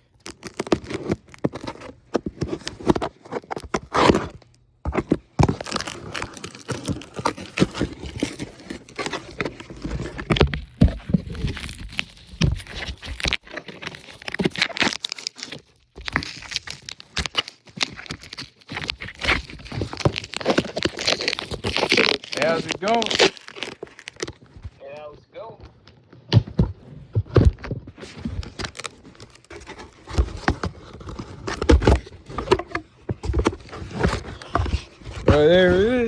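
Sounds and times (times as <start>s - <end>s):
packaging tearing and crinkling: 0.2s - 24.6s, 28.0s - 36.0s.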